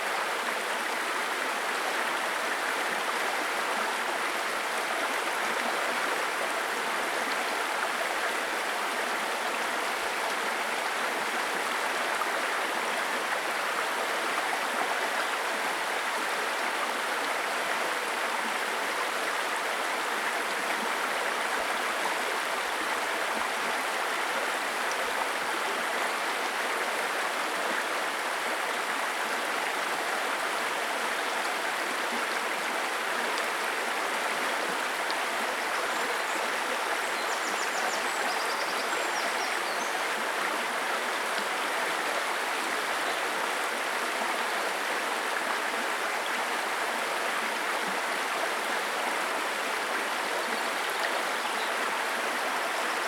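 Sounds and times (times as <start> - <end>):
brook babbling over stones: 0.0 - 53.0.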